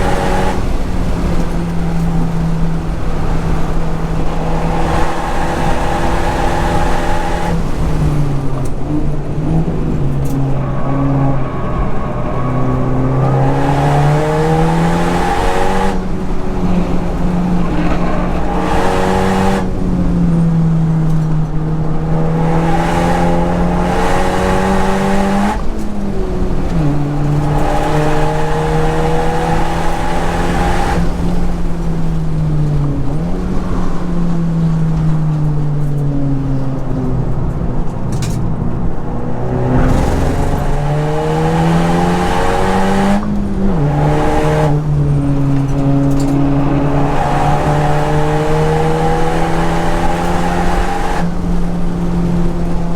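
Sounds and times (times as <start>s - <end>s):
car engine revving through gears: 0.0s - 52.9s.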